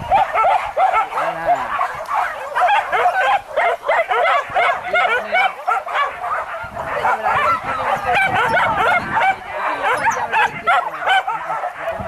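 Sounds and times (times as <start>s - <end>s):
dogs yelping and barking: 0.0s - 12.0s.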